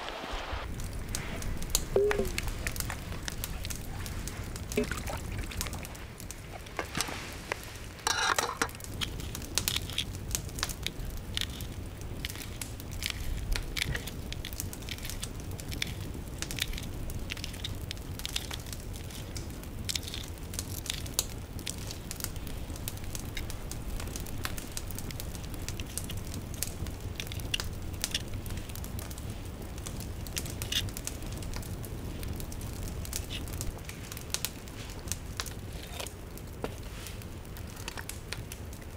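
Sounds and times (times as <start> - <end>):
low steady rumble: 0.0 - 37.6
campfire crackling: 0.0 - 38.9.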